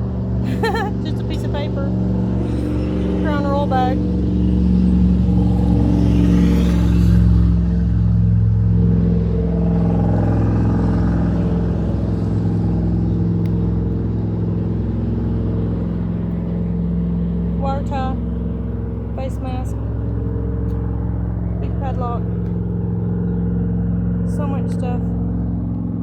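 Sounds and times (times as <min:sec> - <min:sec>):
road noise: 0:00.0 - 0:26.0
vehicle engine humming: 0:00.0 - 0:26.0.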